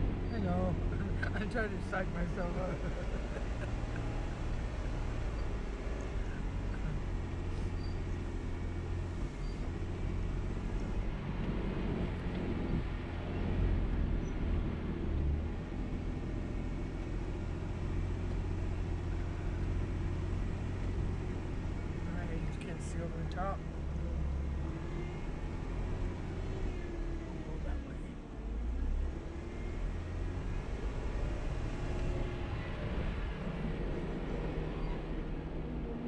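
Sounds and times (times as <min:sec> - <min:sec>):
vehicle engine at low revs: 0:00.0 - 0:36.0.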